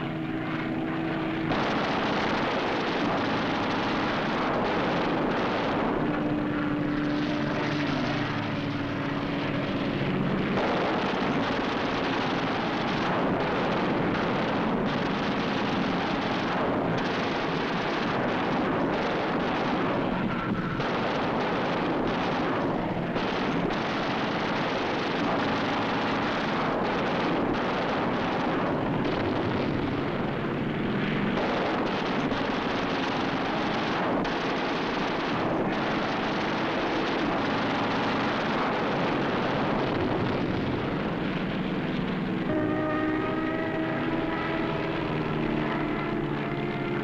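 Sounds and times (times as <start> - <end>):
film soundtrack noise: 0.0 - 47.0
propeller plane engines droning: 0.0 - 47.0.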